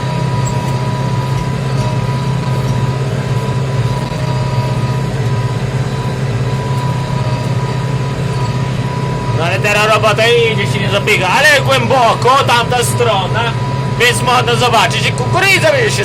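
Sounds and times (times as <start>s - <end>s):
thin steady whine: 0.0s - 16.0s
tractor diesel engine running: 0.0s - 16.0s.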